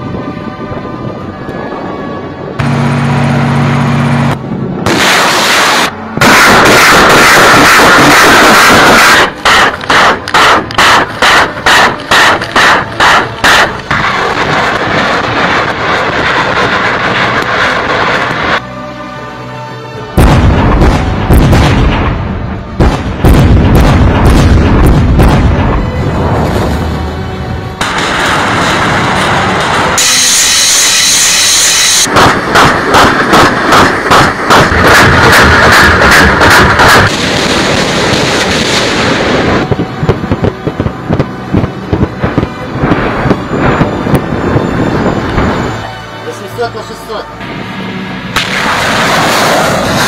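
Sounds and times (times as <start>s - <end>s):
heavy explosions: 2.5s - 18.6s, 20.2s - 46.2s, 47.4s - 50.0s
rumbling: 2.5s - 18.6s, 20.2s - 46.2s, 47.4s - 50.0s
rockets firing roar: 2.6s - 18.6s, 20.2s - 27.0s, 27.8s - 45.8s, 47.4s - 50.0s.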